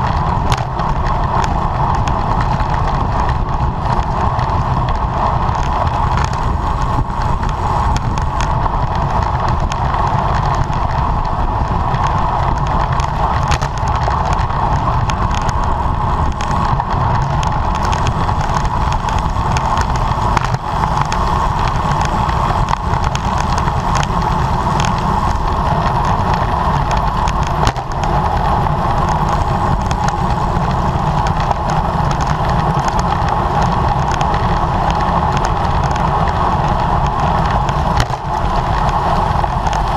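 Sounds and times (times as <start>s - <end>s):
road and tyre rumble: 0.0s - 39.9s
wind rush on microphone: 0.0s - 39.9s.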